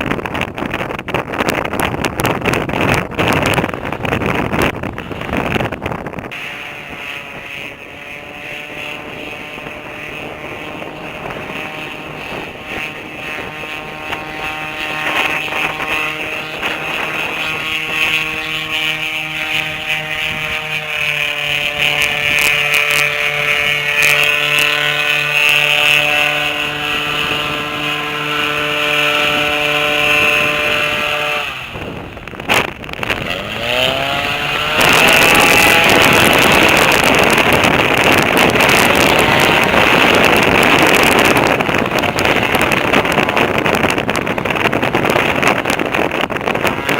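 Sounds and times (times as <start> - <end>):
airboat engine and propeller: 0.0 - 46.9.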